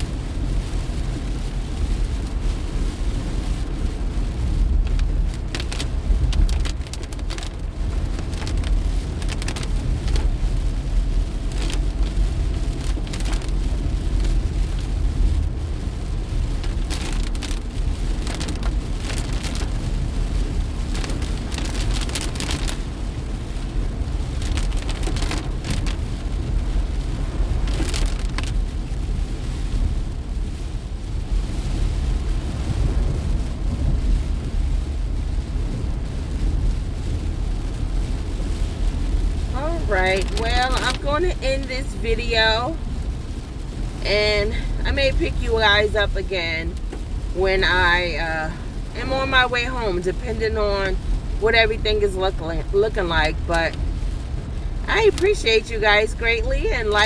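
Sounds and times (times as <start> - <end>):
rain spattering on car glass: 0.0 - 57.0
road and engine rumble: 0.0 - 57.0.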